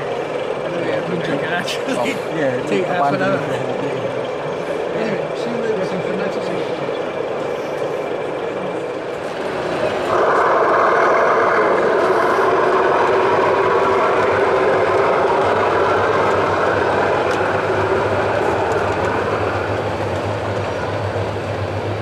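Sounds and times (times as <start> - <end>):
model train rushing: 0.0 - 22.0.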